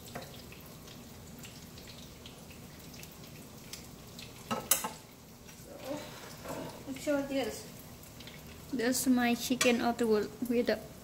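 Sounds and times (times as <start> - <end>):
oil sizzling with crackling pops: 0.0 - 11.0.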